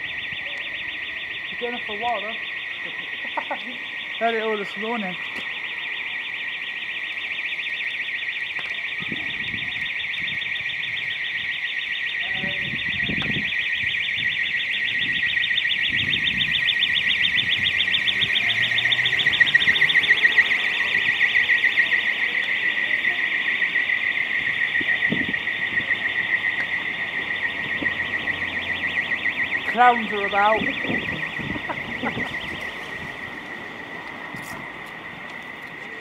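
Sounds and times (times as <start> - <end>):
pulsing high alarm tone: 0.0 - 36.0.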